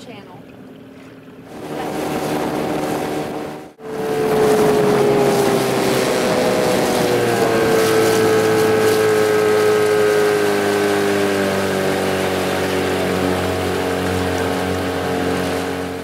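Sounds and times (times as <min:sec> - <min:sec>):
outboard motor running: 0:00.0 - 0:16.0
water rushing: 0:00.0 - 0:16.0.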